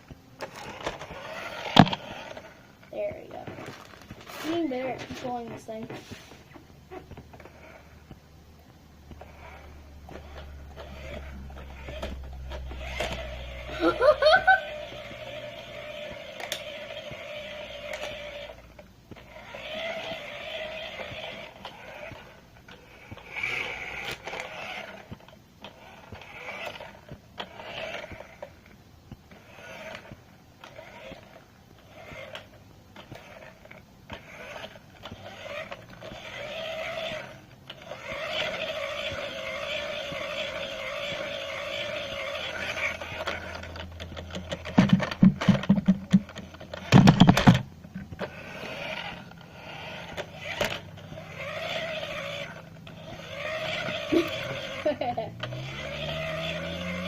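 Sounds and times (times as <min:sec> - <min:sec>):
toy car motor whirring: 0:00.4 - 0:08.2, 0:09.1 - 0:57.0.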